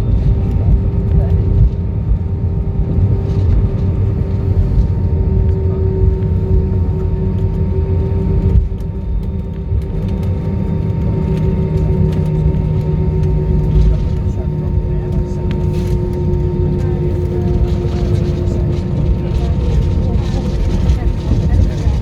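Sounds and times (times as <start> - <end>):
jet engine hum: 0.0 - 22.0
plane cabin rumble: 0.0 - 22.0.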